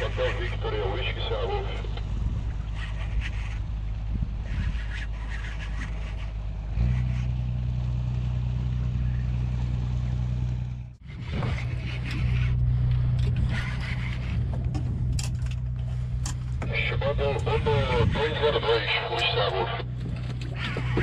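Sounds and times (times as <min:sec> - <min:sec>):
motorboat engine drone: 0:00.0 - 0:21.0.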